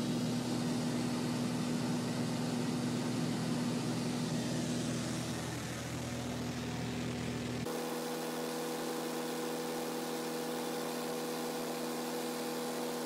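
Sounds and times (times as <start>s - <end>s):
airplane engine and propeller hum: 0.0s - 13.0s.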